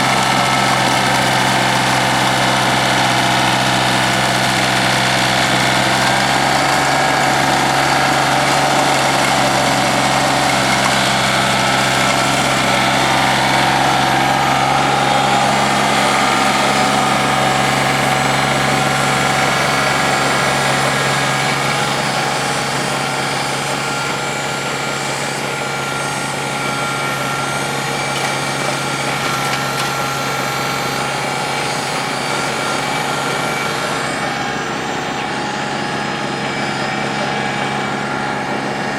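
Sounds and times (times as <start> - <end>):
snowblower working: 0.0 - 38.9
tractor diesel engine running: 0.0 - 38.9.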